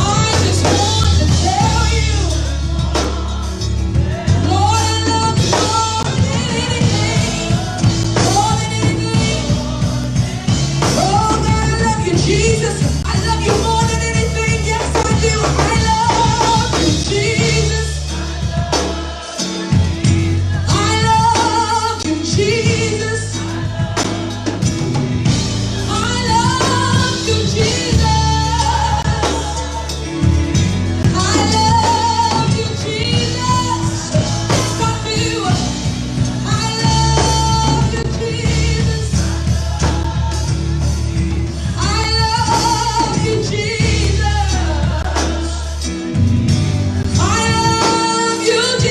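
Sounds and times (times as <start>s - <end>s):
gospel singing: 0.0s - 48.9s
instrumental backing with bass line: 0.0s - 48.9s.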